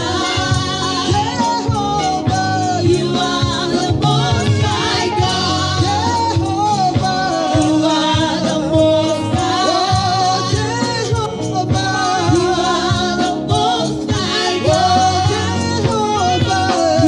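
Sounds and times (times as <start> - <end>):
band with steady beat: 0.0 - 17.0
voices singing gospel song: 0.0 - 17.0.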